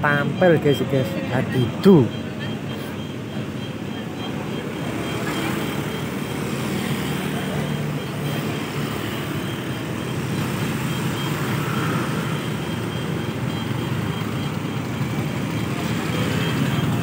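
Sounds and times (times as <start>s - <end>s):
motor scooters passing: 0.0s - 17.0s
truck moving slowly: 0.0s - 17.0s.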